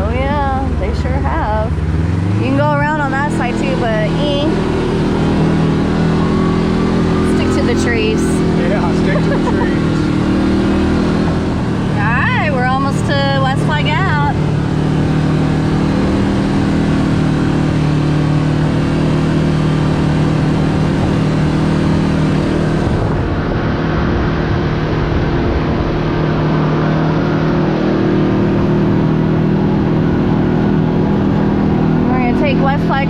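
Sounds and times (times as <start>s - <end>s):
utility vehicle engine cruising: 0.0s - 33.0s.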